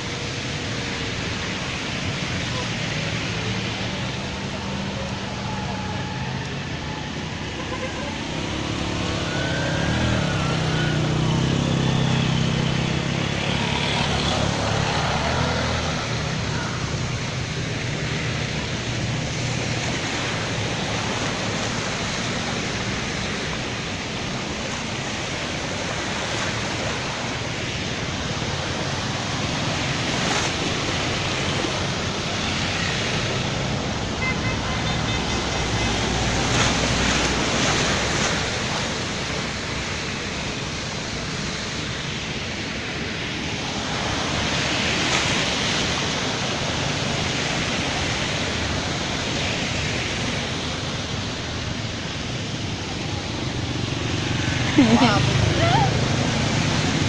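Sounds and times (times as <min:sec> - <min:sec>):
low engine hum: 0:00.0 - 0:57.0
water rushing and splashing: 0:00.0 - 0:57.0.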